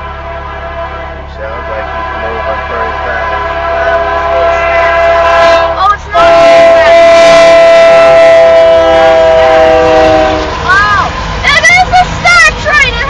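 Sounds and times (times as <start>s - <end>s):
locomotive air horn blasts: 0.0s - 11.8s.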